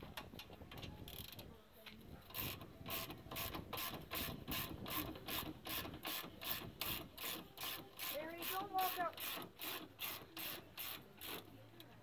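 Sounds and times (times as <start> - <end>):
ratchet wrench clicking: 1.1 - 1.5, 2.3 - 11.5.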